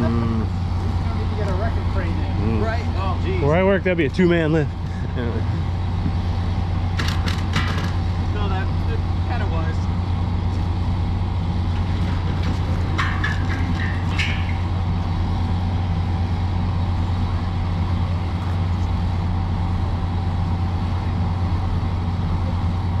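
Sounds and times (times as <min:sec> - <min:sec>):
diesel train engine idling: 0:00.0 - 0:23.0.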